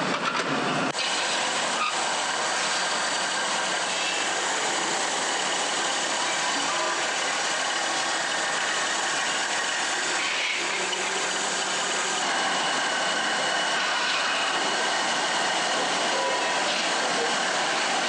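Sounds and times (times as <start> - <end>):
lathe running: 0.0 - 18.0
tool cutting metal: 0.2 - 18.0.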